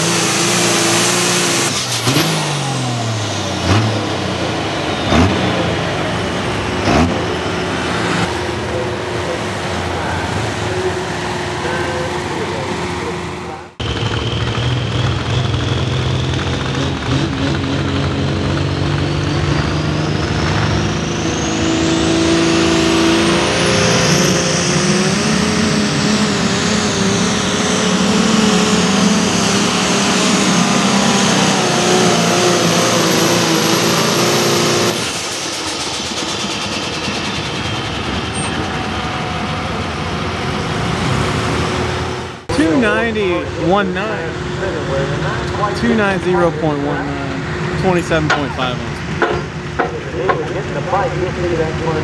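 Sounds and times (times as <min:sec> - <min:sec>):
diesel engine at full throttle: 0:00.0 - 0:52.0
high turbo whine: 0:00.0 - 0:52.0.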